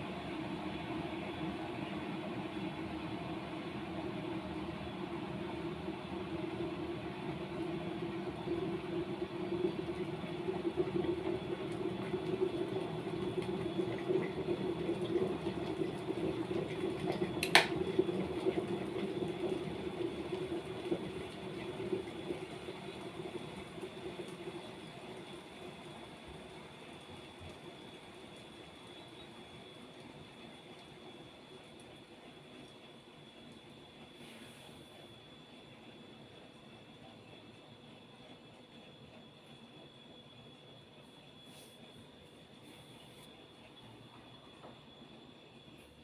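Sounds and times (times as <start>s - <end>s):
kettle water bubbling: 0.0s - 46.0s.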